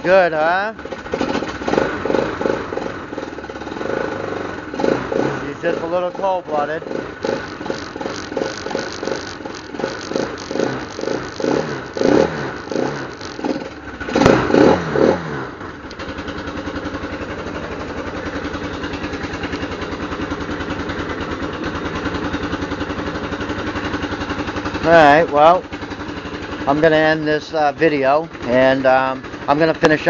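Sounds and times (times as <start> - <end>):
atv engine surging and idling: 0.0 - 30.0.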